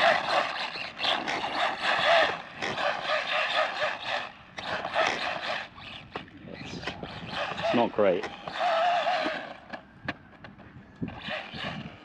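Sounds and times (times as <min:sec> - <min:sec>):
rc truck electric motor whine: 0:00.0 - 0:09.9, 0:10.9 - 0:12.0.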